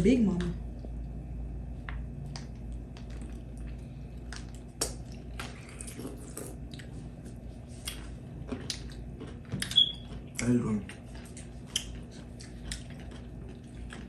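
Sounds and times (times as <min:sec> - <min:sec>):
crunchy pickle chewing: 0:02.3 - 0:14.0.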